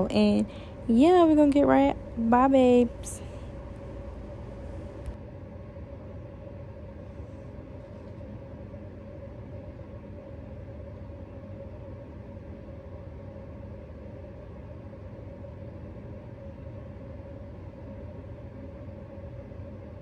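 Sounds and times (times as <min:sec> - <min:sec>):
faint constant hum: 0:00.0 - 0:20.0
low room rumble: 0:00.0 - 0:20.0.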